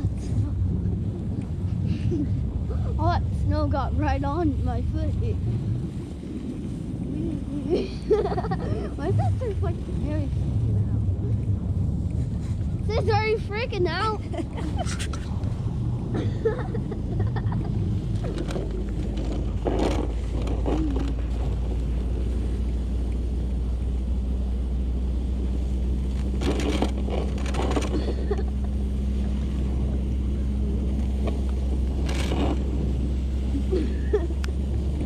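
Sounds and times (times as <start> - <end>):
snow scraping and hissing: 0.0 - 23.9, 25.2 - 35.0
pickup truck driving through snow: 0.0 - 35.0.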